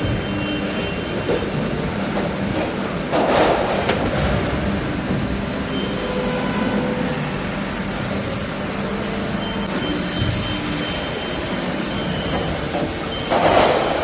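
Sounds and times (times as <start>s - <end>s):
machine mechanical hum: 0.0s - 14.0s.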